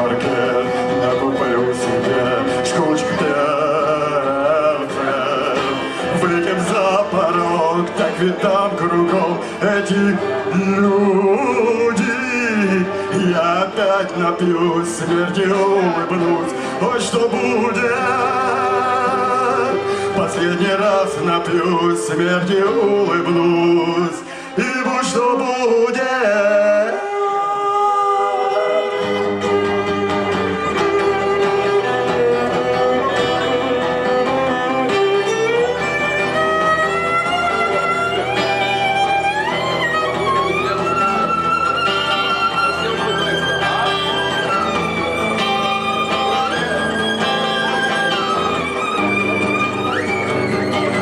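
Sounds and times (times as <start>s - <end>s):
guitar accompaniment: 0.0s - 51.0s
violin melody with slides: 0.0s - 51.0s.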